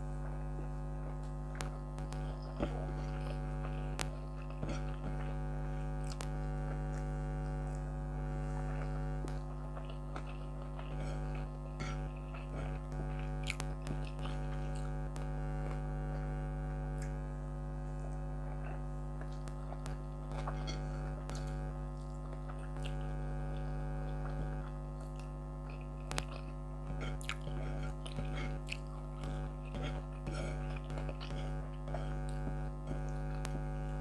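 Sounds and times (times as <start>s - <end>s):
air conditioner humming: 0.0s - 34.0s
close chewing: 0.2s - 34.0s.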